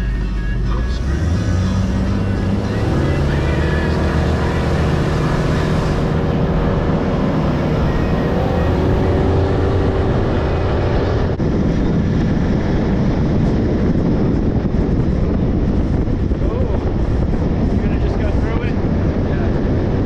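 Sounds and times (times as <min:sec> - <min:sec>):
outboard motor running: 0:00.0 - 0:19.9
wind rushing over microphone: 0:00.6 - 0:20.0.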